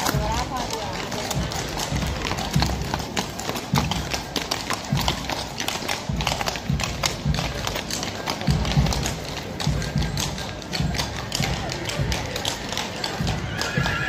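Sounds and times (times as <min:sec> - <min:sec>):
horses hooves clip-clopping on pavement: 0:00.0 - 0:14.0.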